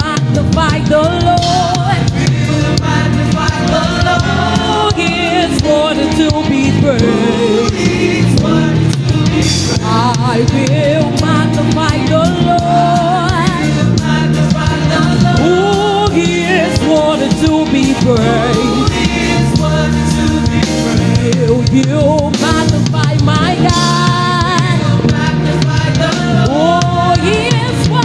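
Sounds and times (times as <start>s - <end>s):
bass guitar: 0.0s - 28.0s
drums beat: 0.0s - 28.0s
person singing: 0.0s - 28.0s.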